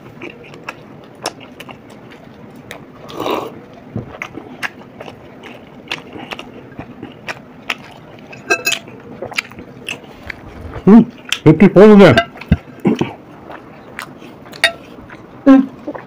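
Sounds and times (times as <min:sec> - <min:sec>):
chewing and biting food: 0:00.0 - 0:11.6, 0:12.3 - 0:16.0.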